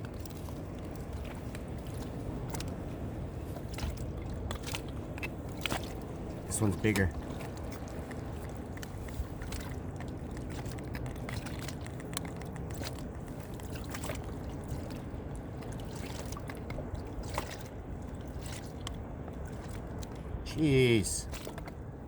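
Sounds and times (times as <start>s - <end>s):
water lapping against kayak hull: 0.0s - 22.0s.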